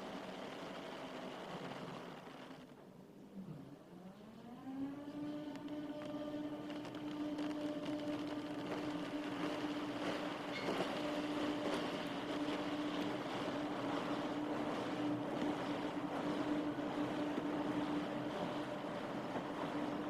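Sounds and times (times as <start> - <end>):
car wash rushing water: 0.0 - 2.7, 5.2 - 20.0
low machine hum: 0.0 - 20.0.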